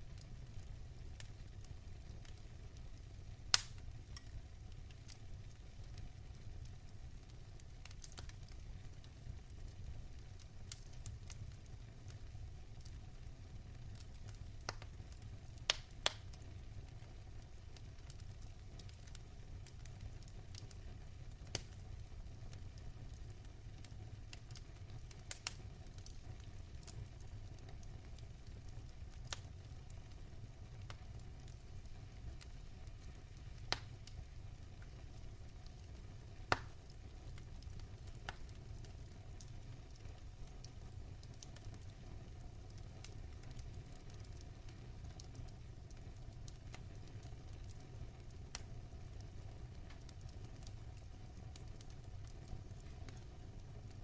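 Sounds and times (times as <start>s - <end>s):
fire popping and snapping: 0.0s - 54.0s
fire rumbling: 0.0s - 54.0s.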